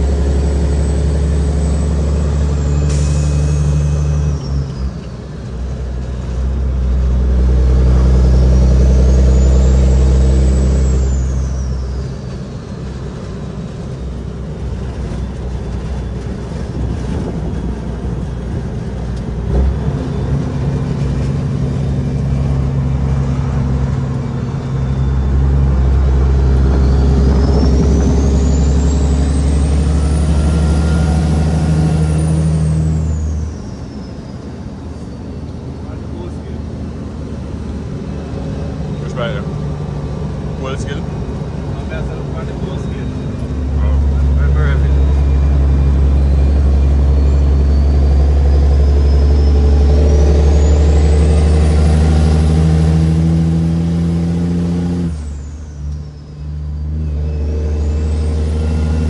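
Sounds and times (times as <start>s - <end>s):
diesel truck engine pulling: 0.0s - 59.0s.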